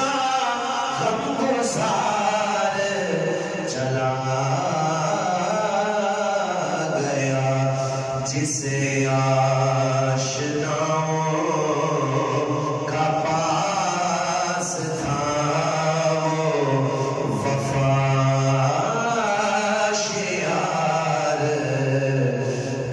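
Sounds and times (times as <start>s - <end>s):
man singing unaccompanied: 0.0s - 22.9s.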